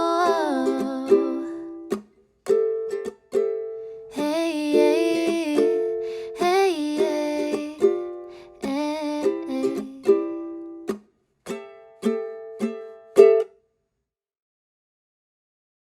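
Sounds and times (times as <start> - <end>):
ukulele strumming: 0.0 - 13.6.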